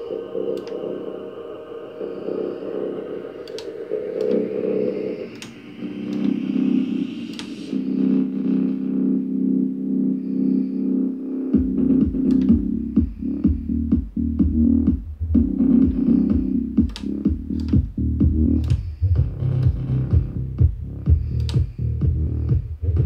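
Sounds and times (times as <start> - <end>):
music with beat and strong bass: 0.0 - 23.0.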